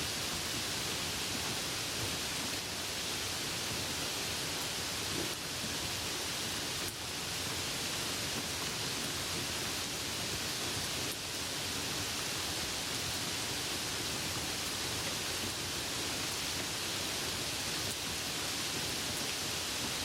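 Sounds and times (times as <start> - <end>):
soft rain falling: 0.0 - 20.0.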